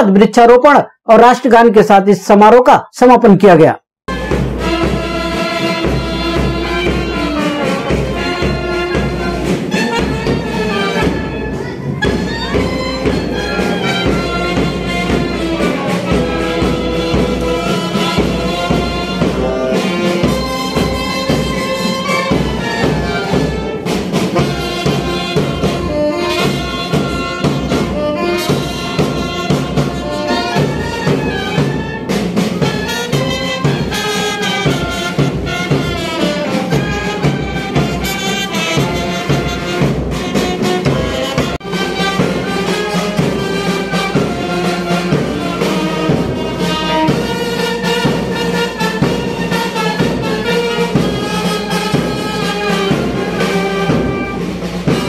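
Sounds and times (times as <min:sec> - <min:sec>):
brass band playing: 0:04.1 - 0:55.0
clarinets and saxophone: 0:04.1 - 0:55.0.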